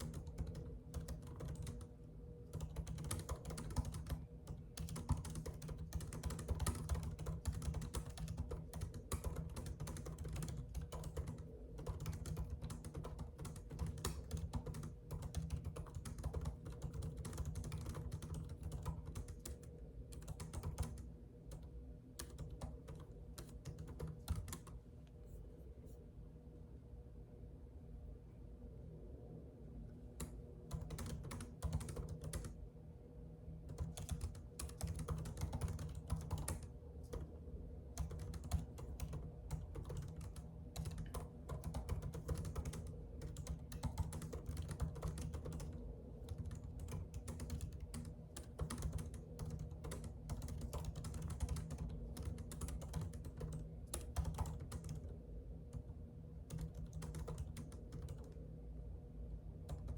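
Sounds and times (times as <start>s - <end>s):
typing on computer keyboard: 0.0s - 24.8s, 30.2s - 32.6s, 33.6s - 37.3s, 37.9s - 58.4s, 59.6s - 59.9s.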